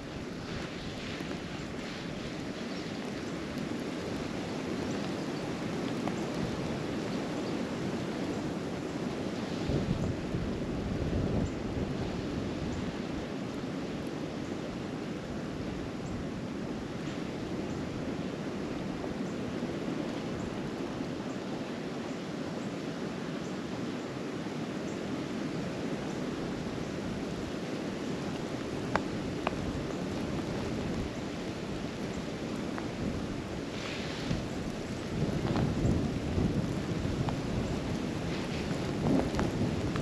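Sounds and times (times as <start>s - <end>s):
wind buffeting microphone: 0.0s - 21.2s, 25.4s - 40.0s.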